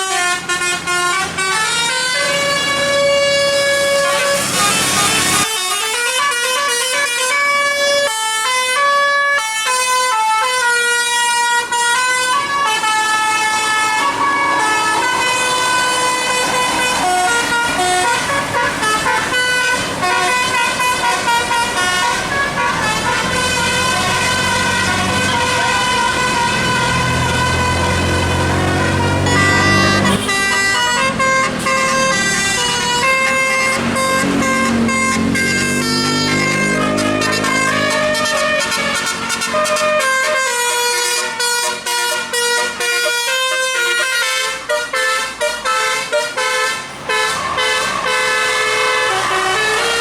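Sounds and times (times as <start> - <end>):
musical bus air horn: 0.0 - 50.0.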